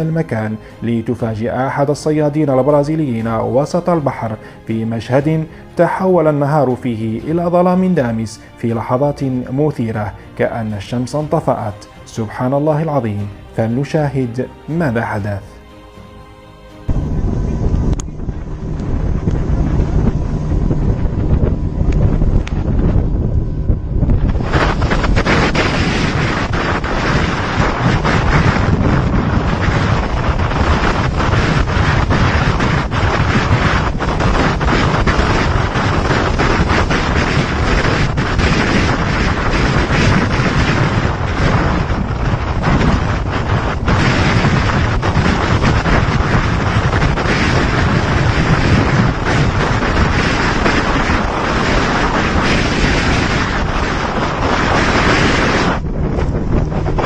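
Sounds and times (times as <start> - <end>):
strong wind blowing over microphone: 0.0 - 57.0.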